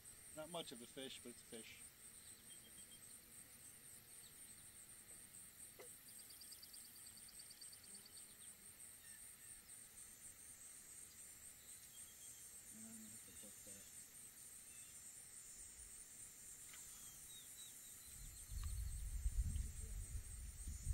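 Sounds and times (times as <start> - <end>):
high-pitched insect chorus: 0.0 - 20.9
rapid insect trill: 0.0 - 20.9.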